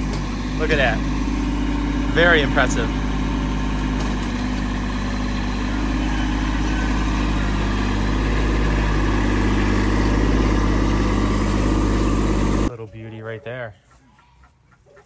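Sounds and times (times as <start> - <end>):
tractor engine running: 0.0 - 12.8.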